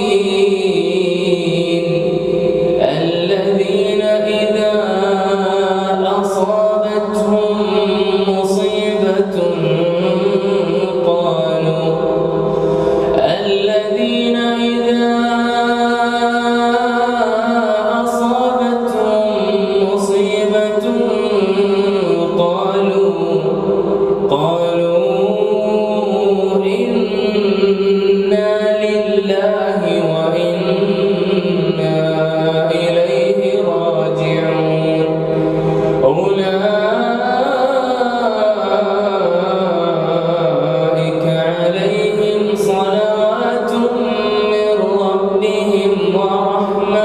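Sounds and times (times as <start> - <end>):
man chanting melodically: 0.0 - 47.0.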